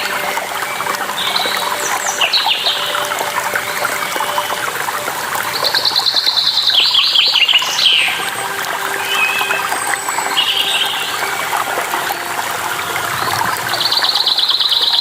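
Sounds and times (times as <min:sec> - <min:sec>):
songbirds chirping: 0:00.0 - 0:15.0
waterfall rushing: 0:00.0 - 0:15.0.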